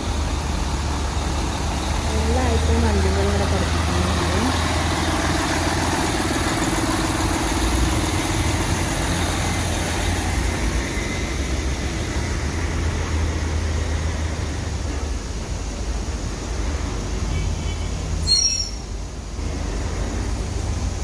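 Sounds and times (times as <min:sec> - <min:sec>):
diesel truck engine idling: 0:00.0 - 0:17.2.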